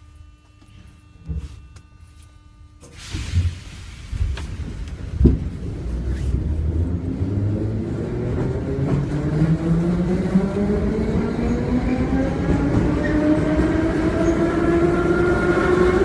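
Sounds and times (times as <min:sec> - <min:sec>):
low train rumble: 0:02.4 - 0:16.0.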